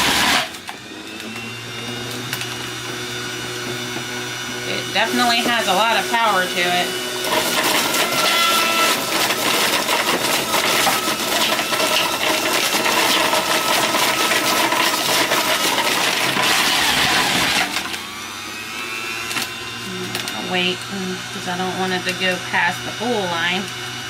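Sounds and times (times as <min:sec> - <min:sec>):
juicer grinding carrots: 0:00.0 - 0:24.0
juicer motor running: 0:00.0 - 0:24.0.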